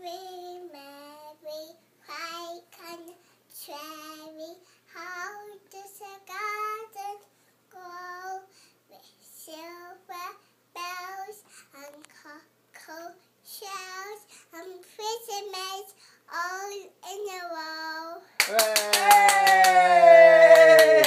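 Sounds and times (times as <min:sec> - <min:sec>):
toddler singing: 0:00.0 - 0:18.3.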